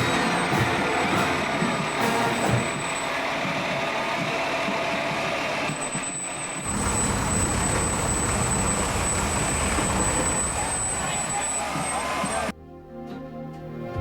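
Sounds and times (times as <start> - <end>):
large vehicle engine running: 0.0 - 12.5.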